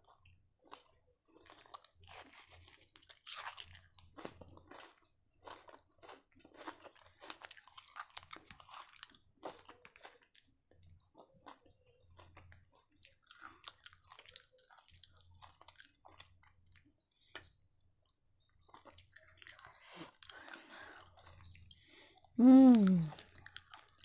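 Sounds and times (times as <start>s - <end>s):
crunchy chewing: 0.0s - 17.0s, 18.6s - 22.4s, 23.1s - 24.0s.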